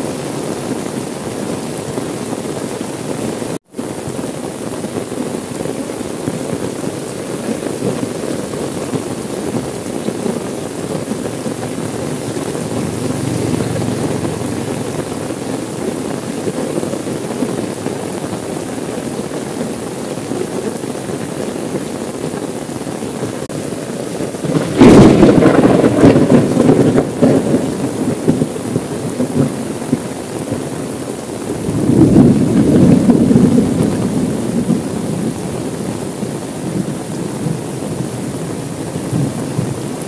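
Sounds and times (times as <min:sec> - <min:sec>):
rain on a car roof: 0:00.0 - 0:40.0.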